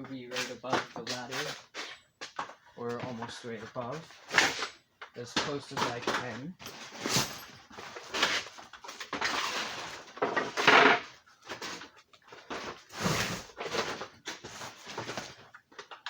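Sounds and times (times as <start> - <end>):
rustling and scraping of objects: 0.0 - 16.0.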